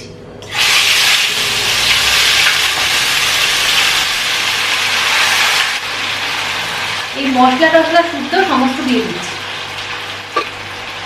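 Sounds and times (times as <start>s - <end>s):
chicken sizzling in hot oil: 0.5s - 11.0s.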